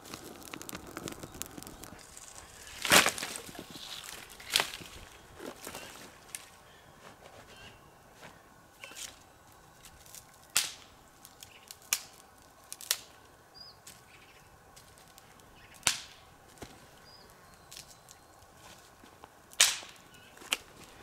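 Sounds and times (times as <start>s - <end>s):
dry wood cracking: 0.0s - 6.6s, 8.8s - 13.2s, 14.8s - 21.0s.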